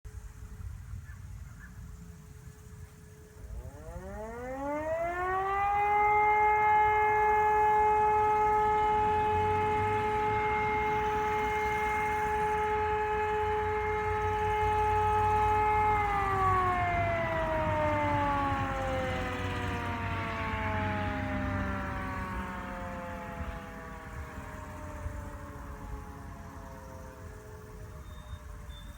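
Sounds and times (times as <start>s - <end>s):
warning siren winding up and down: 2.0s - 28.9s.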